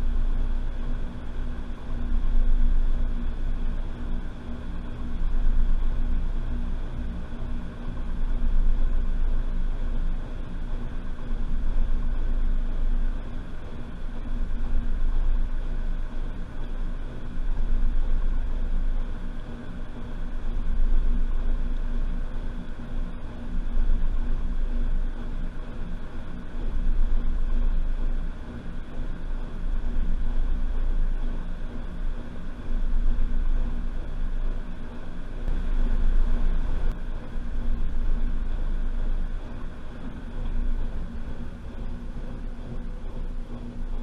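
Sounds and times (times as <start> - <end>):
washing machine motor rumble: 0.0 - 44.0.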